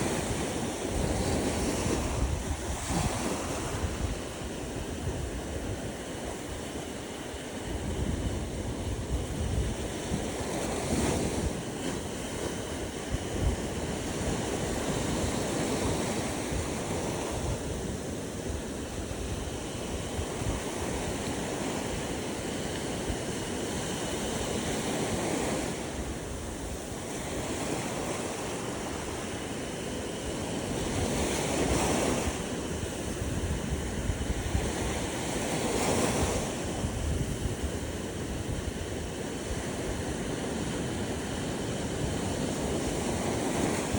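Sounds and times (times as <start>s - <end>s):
ocean waves on a beach: 0.0s - 43.9s
wind rumbling on microphone: 0.0s - 43.9s.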